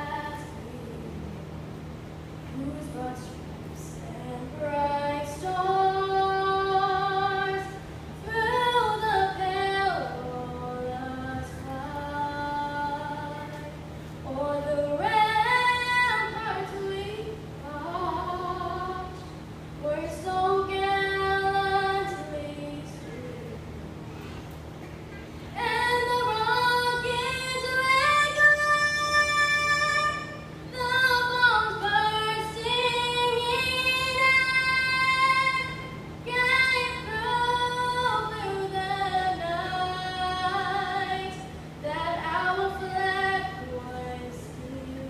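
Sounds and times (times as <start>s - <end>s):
girl singing into microphone: 0.0s - 1.3s, 2.5s - 24.4s, 25.1s - 45.0s
low hum: 0.0s - 45.0s.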